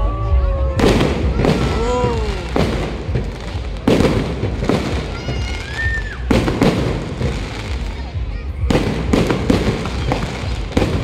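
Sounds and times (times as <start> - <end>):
fireworks bangs: 0.8 - 11.0
fireworks crackle and hiss: 0.8 - 11.0.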